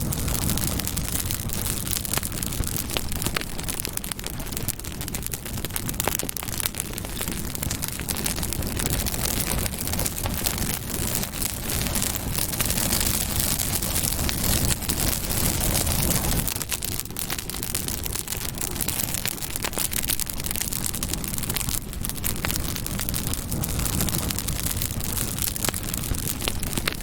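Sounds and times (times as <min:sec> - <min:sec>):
low rush of flame: 0:00.0 - 0:27.0
wood crackling and popping: 0:00.0 - 0:27.0.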